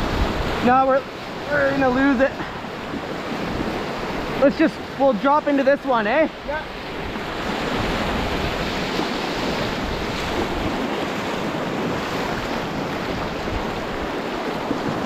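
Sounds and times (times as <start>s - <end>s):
whitewater rushing: 0.0s - 15.0s
wind buffeting microphone: 0.0s - 15.0s.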